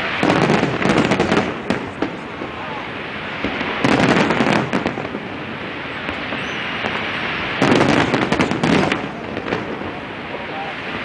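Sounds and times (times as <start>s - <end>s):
distant fireworks noise: 0.0s - 11.0s
firework bangs and crackles: 0.0s - 11.0s.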